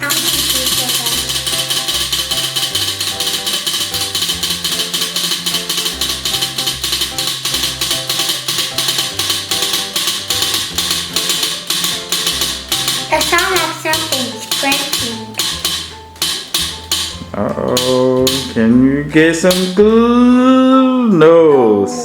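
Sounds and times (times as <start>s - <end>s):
music with fast percussive beat: 0.0s - 20.5s.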